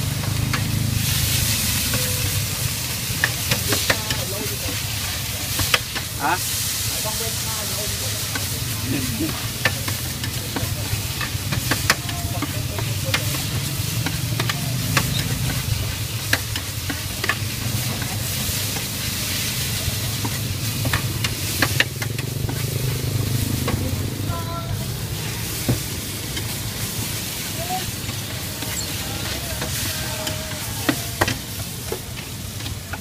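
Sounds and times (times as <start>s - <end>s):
noodles sizzling on griddle: 0.0s - 33.0s.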